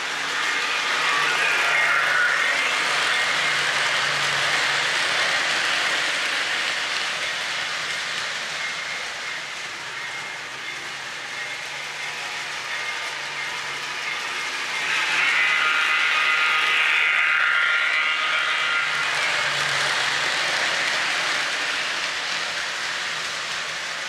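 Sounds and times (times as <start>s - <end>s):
model train wheels rolling: 0.0s - 24.0s.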